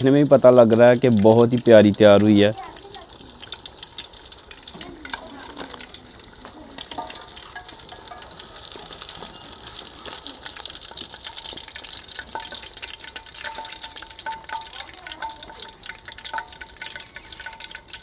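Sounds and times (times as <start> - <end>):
fish deep-frying in oil: 0.0 - 18.0.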